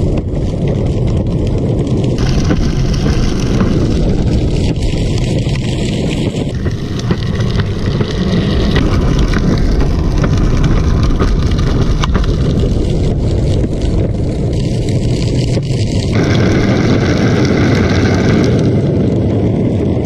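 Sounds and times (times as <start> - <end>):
wheels rolling at speed: 0.0 - 20.0
wind on microphone: 0.0 - 20.0.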